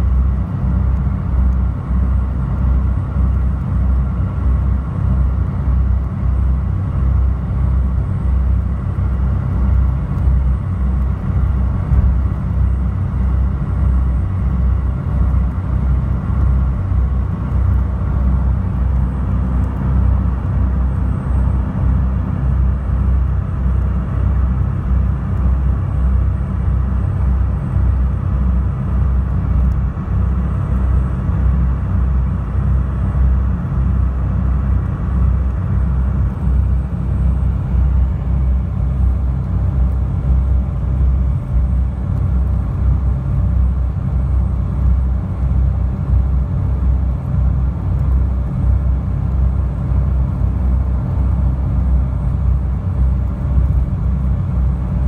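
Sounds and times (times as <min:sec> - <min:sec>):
boat engine low rumble: 0:00.0 - 0:55.0
faint steady hum: 0:00.0 - 0:55.0.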